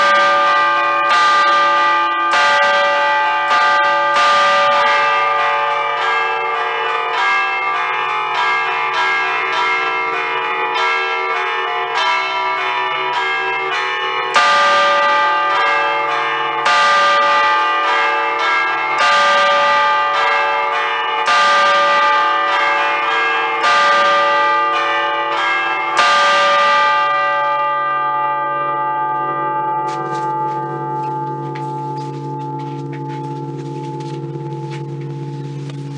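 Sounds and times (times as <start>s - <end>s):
bells humming: 0.0s - 35.9s
church bells chiming: 0.0s - 35.9s.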